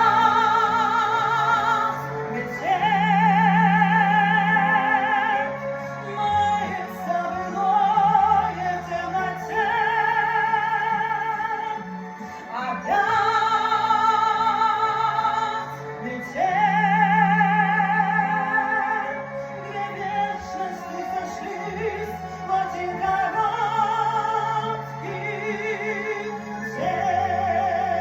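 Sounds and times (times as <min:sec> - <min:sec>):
low musical accompaniment: 0:00.0 - 0:28.0.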